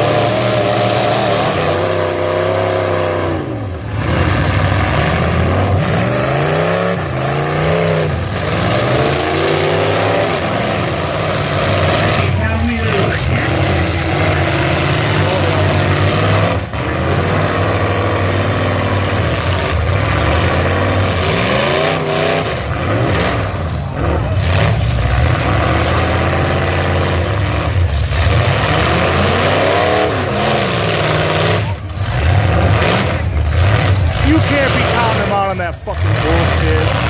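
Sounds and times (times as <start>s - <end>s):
truck engines revving: 0.0s - 37.0s.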